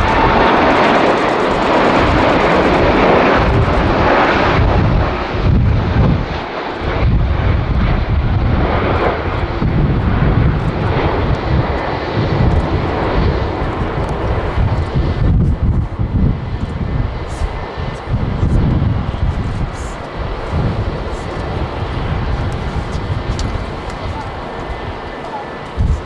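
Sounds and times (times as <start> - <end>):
airliner jet engines: 0.0 - 26.0
deep low rumble: 0.0 - 26.0.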